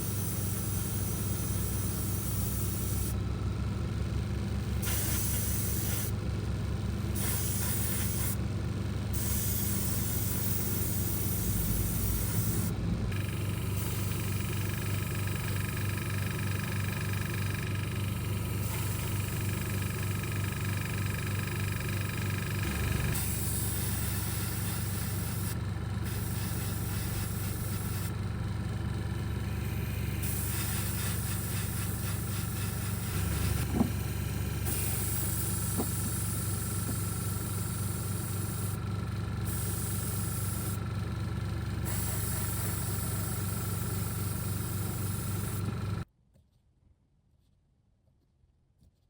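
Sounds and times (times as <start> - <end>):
small motor humming: 0.0 - 3.2, 3.9 - 6.2, 7.0 - 8.4, 9.1 - 46.0.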